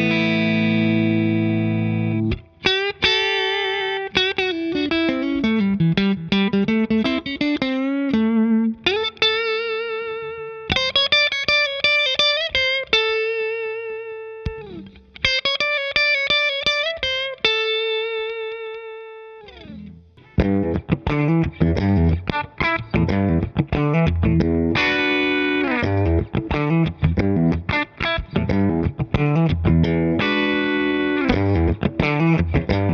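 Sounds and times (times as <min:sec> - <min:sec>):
electric guitar lead line: 0:00.0 - 0:32.9.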